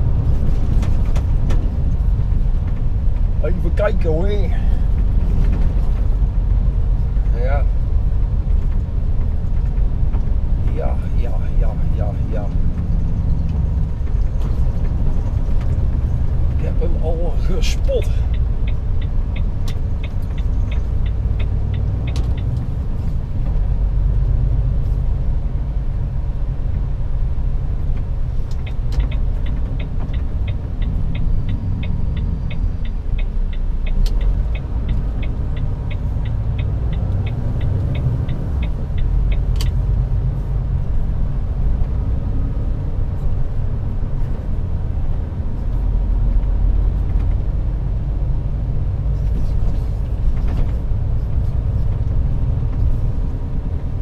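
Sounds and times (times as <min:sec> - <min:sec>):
truck engine and road rumble: 0:00.0 - 0:54.0
turn signal ticking: 0:00.0 - 0:54.0.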